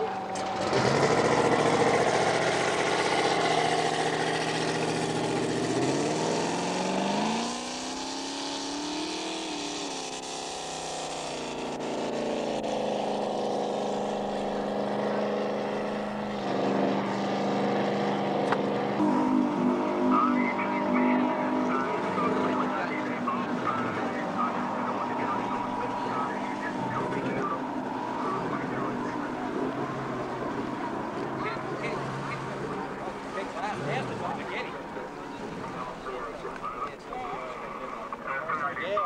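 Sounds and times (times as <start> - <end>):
boat engine revving: 0.0 - 39.0.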